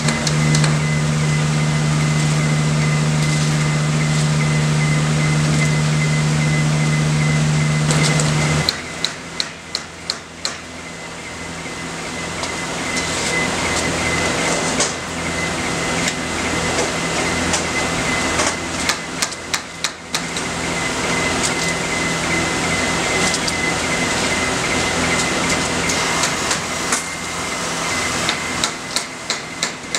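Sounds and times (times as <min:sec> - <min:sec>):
machine hum with high whine: 0:00.0 - 0:29.9.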